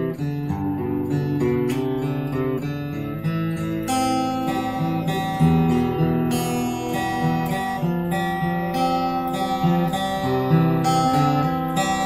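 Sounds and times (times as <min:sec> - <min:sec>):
acoustic guitar fingerpicking: 0:00.0 - 0:12.0
strummed guitar chords: 0:00.0 - 0:12.0.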